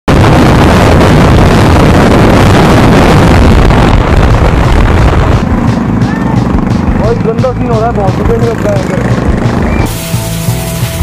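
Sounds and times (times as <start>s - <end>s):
wind rush on microphone: 0.1s - 10.0s.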